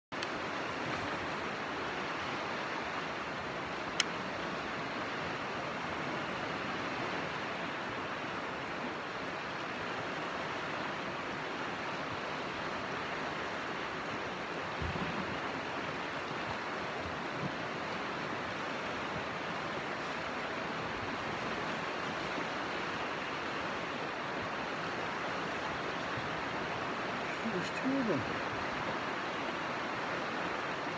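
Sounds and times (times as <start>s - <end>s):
river rapids rushing: 0.2s - 30.9s.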